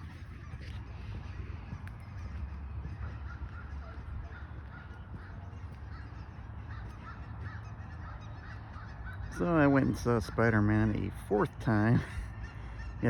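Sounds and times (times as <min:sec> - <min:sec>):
flock of birds calling: 0:00.0 - 0:13.0.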